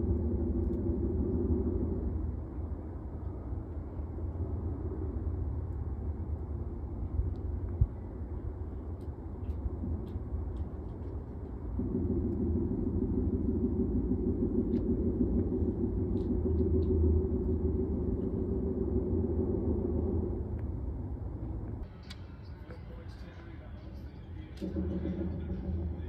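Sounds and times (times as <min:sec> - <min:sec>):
low rumbling drone from sky: 0:00.0 - 0:26.0.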